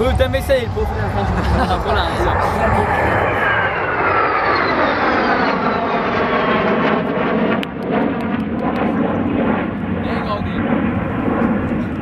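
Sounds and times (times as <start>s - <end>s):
falling jet whine: 0.0s - 12.0s
jet engines roaring past: 0.0s - 12.0s.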